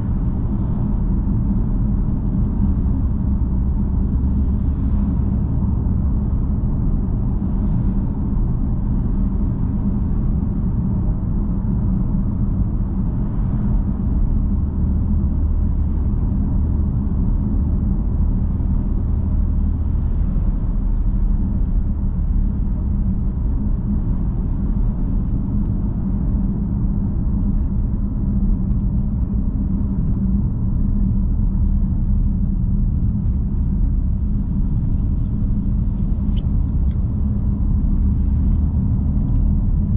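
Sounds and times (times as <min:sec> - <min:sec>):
car engine and exhaust cruising: 0:00.0 - 0:39.9
road noise: 0:00.0 - 0:39.9.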